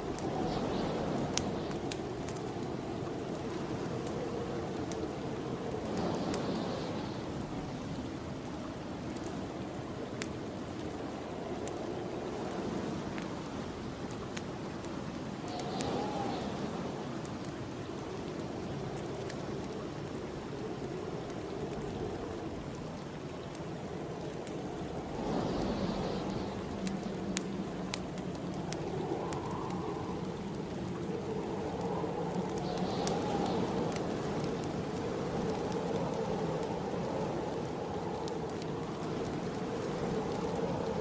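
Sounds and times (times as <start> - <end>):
snowstorm wind blowing: 0.0 - 41.0
wood fire crackling: 0.0 - 41.0.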